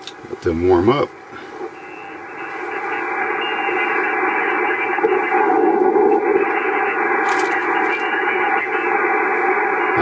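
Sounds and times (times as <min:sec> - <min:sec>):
radio receiver static hiss: 0:00.0 - 0:10.0.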